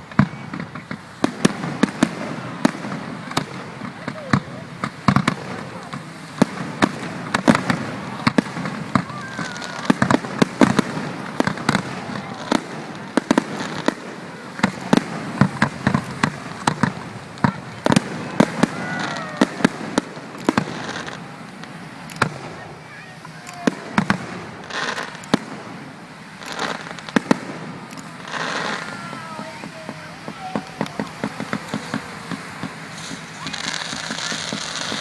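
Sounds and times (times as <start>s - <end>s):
fireworks sharp bangs: 0.0s - 35.0s.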